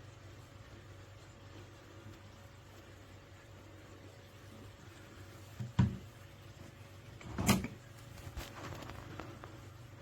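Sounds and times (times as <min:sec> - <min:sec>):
low steady hum: 0:00.0 - 0:10.0
soft hiss: 0:00.0 - 0:10.0.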